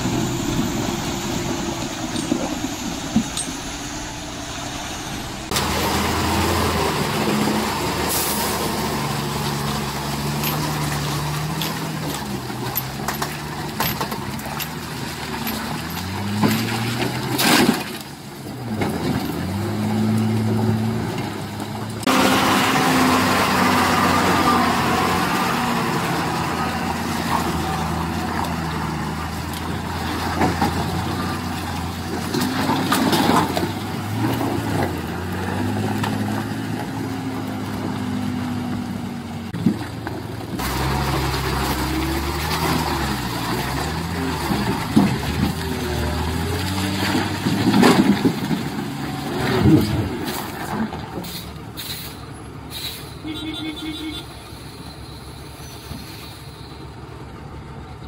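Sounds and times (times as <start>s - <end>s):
diesel truck engines revving: 0.0s - 58.0s.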